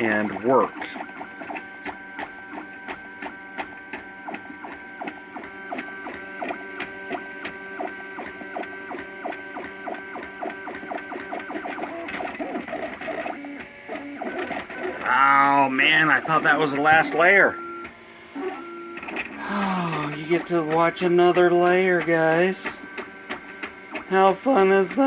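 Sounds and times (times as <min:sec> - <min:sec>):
print head ticks: 0:00.0 - 0:17.9, 0:19.9 - 0:25.0
stepper motors whining: 0:00.0 - 0:25.0.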